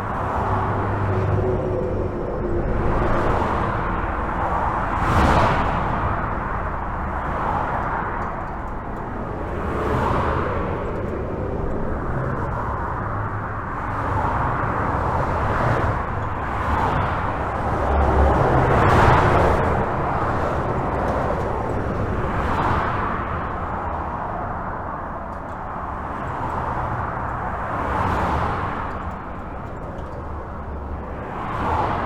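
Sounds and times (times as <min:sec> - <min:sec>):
highway traffic rushing: 0:00.0 - 0:32.0
vehicles passing: 0:00.0 - 0:32.0.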